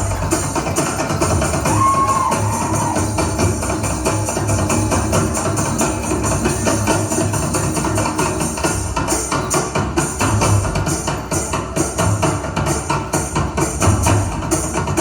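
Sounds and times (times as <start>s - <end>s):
dance music with fast percussion: 0.0s - 15.0s.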